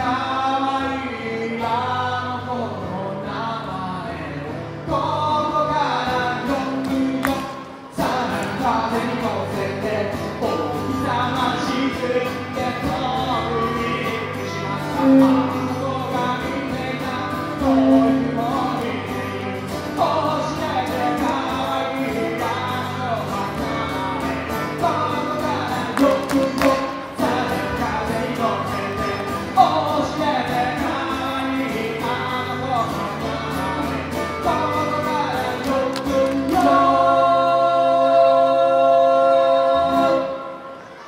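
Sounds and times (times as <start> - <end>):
folk band playing: 6.1 - 41.0.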